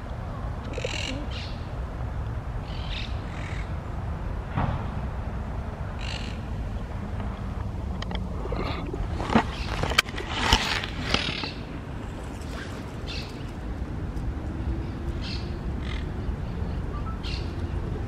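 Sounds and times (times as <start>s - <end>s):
steady low rumble: 1.6s - 16.8s.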